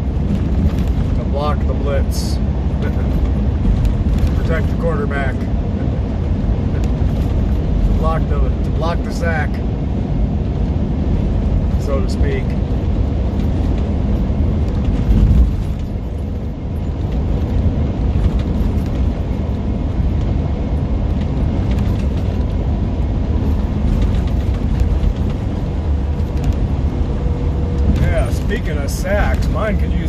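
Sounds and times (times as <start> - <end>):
truck engine and road rumble: 0.0 - 30.0.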